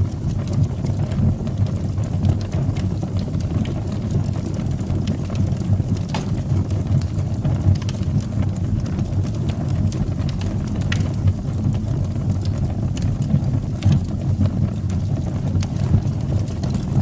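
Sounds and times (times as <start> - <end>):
fire crackles and pops: 0.0 - 17.0
fire roaring in fireplace: 0.0 - 17.0.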